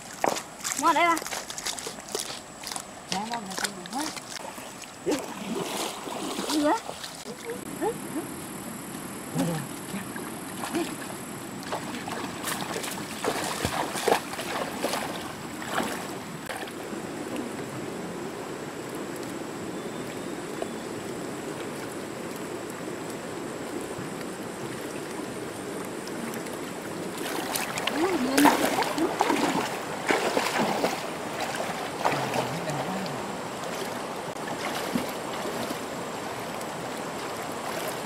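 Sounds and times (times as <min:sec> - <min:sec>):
splashes from wading: 0:00.0 - 0:08.5, 0:09.3 - 0:17.8, 0:21.5 - 0:38.0
stream water running: 0:00.0 - 0:38.0.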